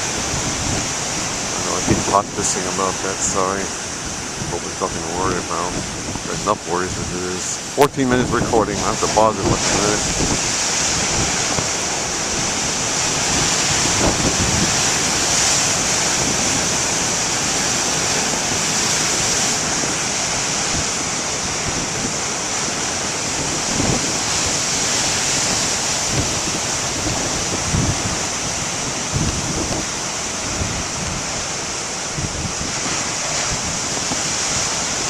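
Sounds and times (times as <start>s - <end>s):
ocean waves breaking: 0.0s - 35.0s
wind buffeting microphone: 0.0s - 35.0s.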